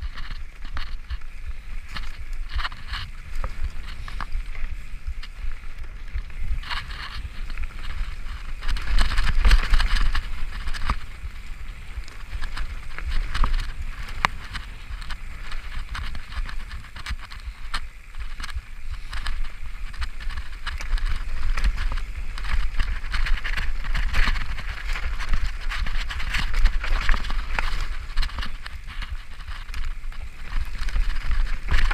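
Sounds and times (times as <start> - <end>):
bike clicks and rattles: 0.0 - 31.9
bike tyres on dirt and leaves: 0.0 - 31.9
wind rumble on microphone: 0.0 - 31.9.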